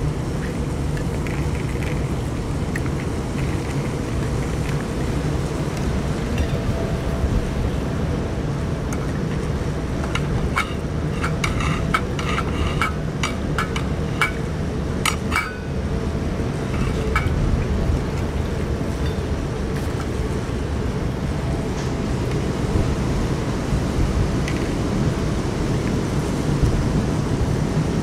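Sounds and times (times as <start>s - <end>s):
low wind rumble: 0.0s - 28.0s.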